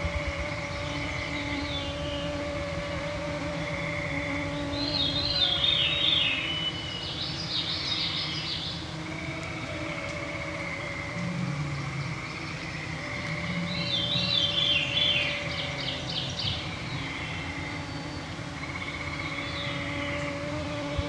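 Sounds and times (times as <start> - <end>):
mosquitoes whining: 0.0 - 21.0
songbird singing: 0.0 - 21.0.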